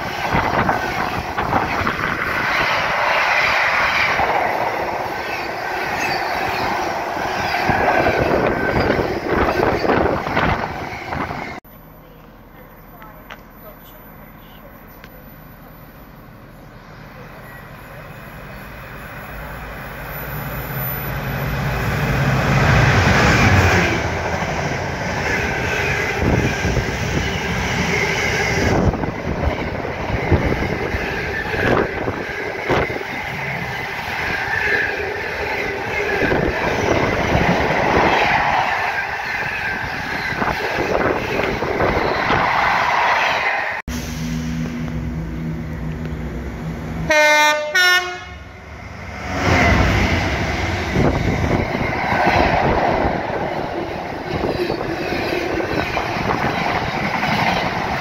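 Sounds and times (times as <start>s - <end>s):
diesel locomotive drone: 0.0s - 58.0s
freight locomotive engine passing: 0.0s - 58.0s.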